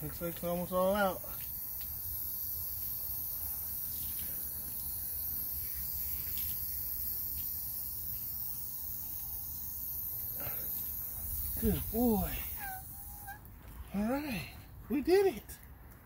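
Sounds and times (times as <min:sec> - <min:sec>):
hose nozzle water hissing: 0:00.0 - 0:13.4.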